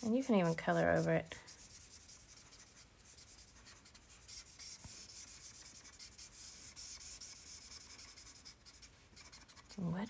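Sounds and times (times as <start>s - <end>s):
marker scratching on card: 0.1s - 10.0s.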